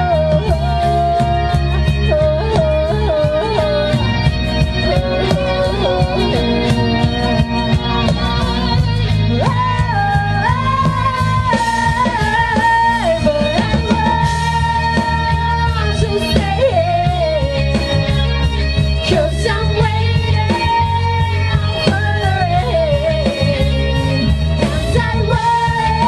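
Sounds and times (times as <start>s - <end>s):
woman singing: 0.0s - 4.1s, 4.8s - 18.4s, 19.0s - 26.0s
drums: 0.0s - 26.0s
electric guitar: 0.0s - 26.0s.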